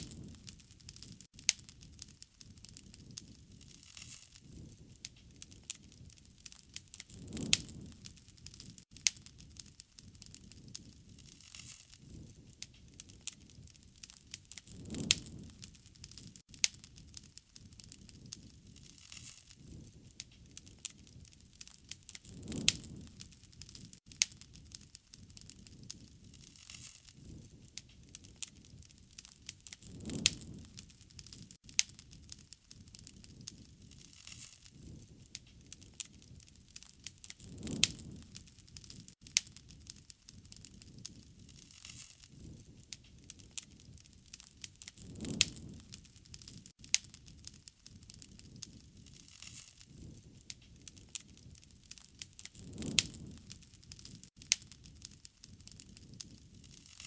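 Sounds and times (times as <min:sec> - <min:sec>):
burning wood popping: 0:00.0 - 0:57.0
flames rushing: 0:00.0 - 0:57.0
wood fire crackling: 0:00.0 - 0:57.0.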